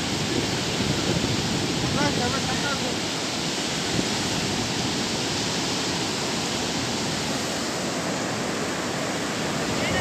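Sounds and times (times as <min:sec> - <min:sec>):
waves crashing on beach: 0:00.0 - 0:10.0.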